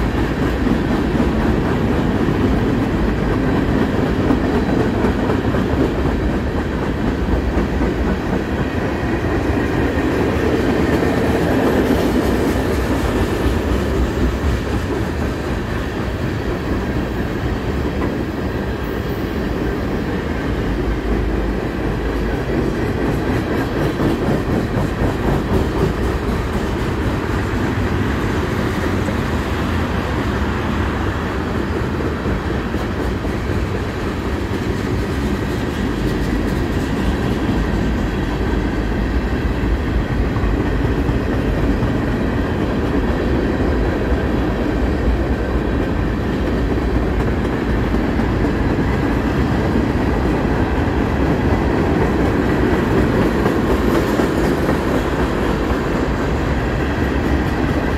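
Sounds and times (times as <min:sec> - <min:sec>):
freight train cars rolling past: 0:00.0 - 0:57.9.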